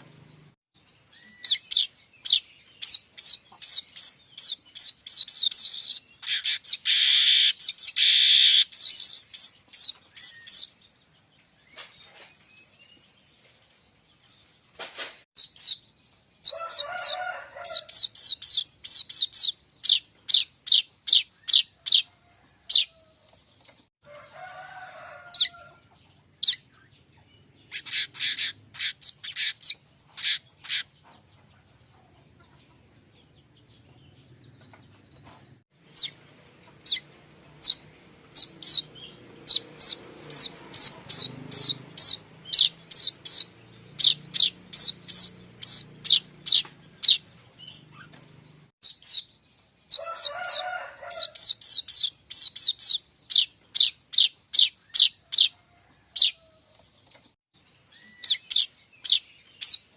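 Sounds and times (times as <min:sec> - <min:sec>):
bird rapid high ticking song: 0:00.0 - 0:13.2, 0:15.4 - 0:22.9, 0:25.4 - 0:55.6, 0:56.2 - 0:59.9.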